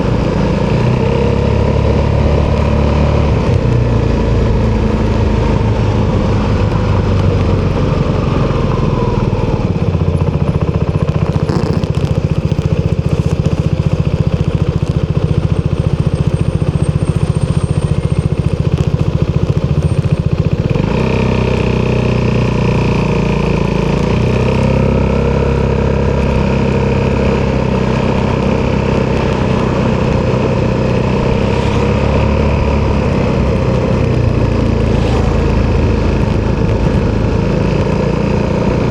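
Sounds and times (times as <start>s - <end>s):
scooter engine while riding: 0.0s - 38.9s.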